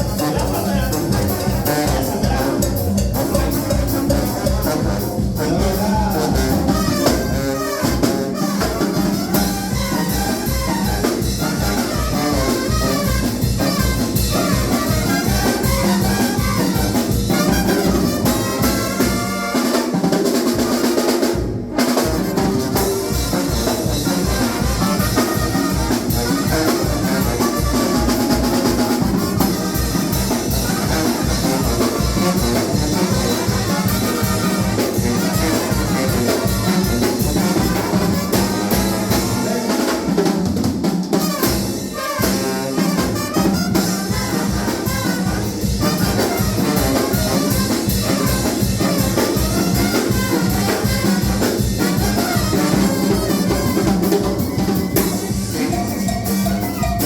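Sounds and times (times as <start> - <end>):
brass band music: 0.0 - 57.0
drums keeping a steady beat: 0.0 - 57.0
trumpets: 0.0 - 57.0.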